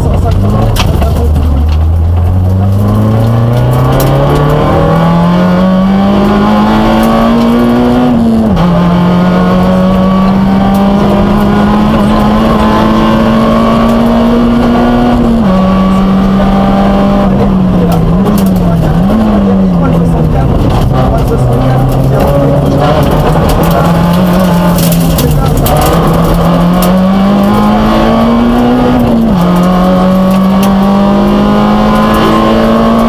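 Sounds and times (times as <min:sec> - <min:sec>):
rally car engine accelerating: 0:00.0 - 0:33.0.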